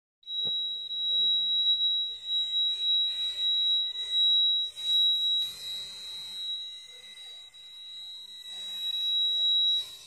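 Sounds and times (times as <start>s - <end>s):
high-pitched pure tone: 0.2s - 10.0s.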